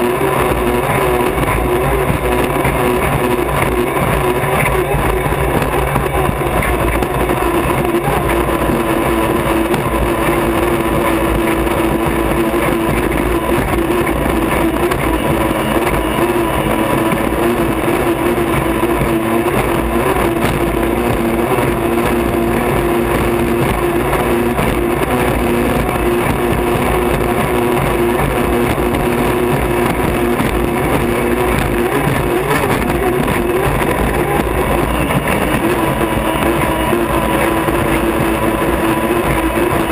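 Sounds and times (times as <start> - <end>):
rush of wind and water: 0.0 - 39.9
turbine engine whine: 0.0 - 39.9.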